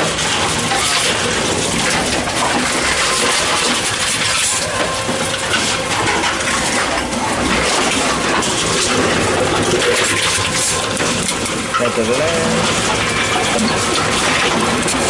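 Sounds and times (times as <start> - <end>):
plastic bottles clattering: 0.0 - 15.0
vending machine running: 0.0 - 15.0.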